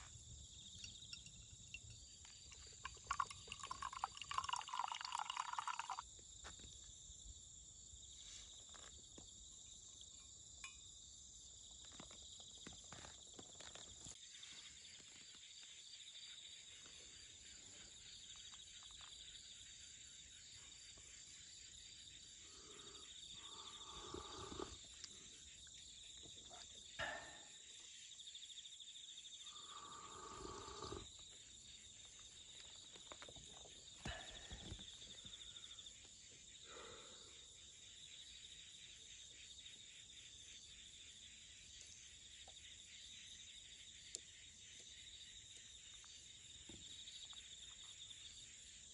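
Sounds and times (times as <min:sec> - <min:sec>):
insects chirring: 0:00.0 - 0:48.9.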